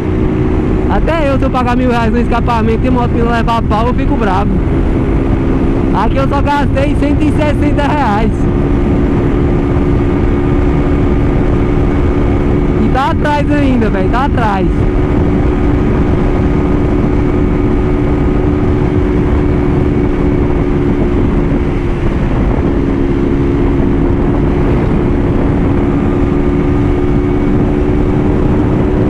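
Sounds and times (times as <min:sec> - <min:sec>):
motorcycle engine at high revs: 0:00.0 - 0:29.0
wind rush on microphone: 0:00.0 - 0:29.0.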